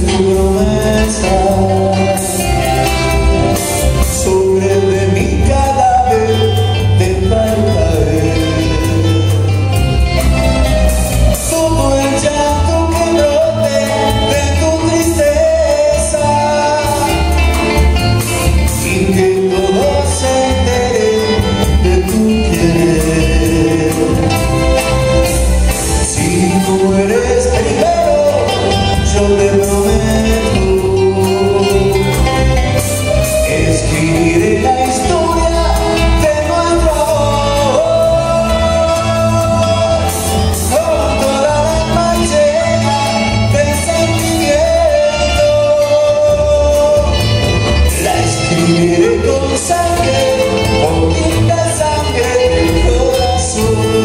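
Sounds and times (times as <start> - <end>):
drum kit: 0.0 - 54.0
electric guitar: 0.0 - 54.0
man singing: 0.0 - 54.0.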